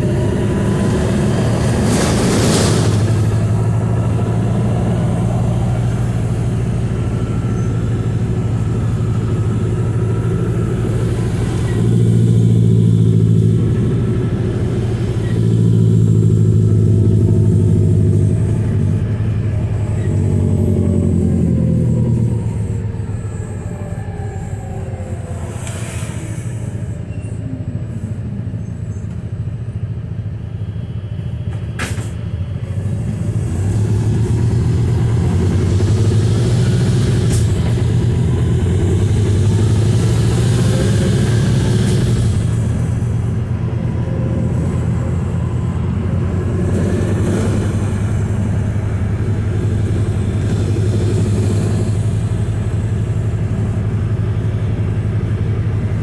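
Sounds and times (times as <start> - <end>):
bus drivetrain drone: 0.0 - 56.0
road noise: 0.0 - 56.0.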